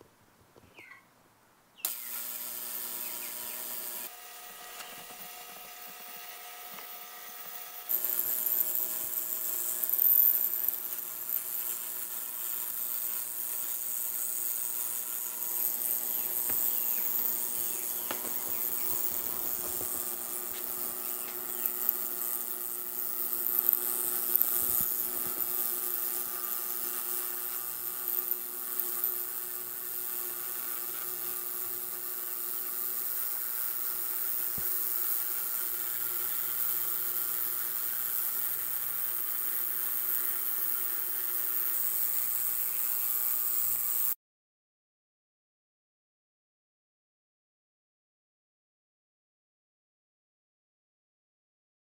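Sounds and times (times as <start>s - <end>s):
ultrasonic cleaner hiss and buzz: 1.9s - 44.2s.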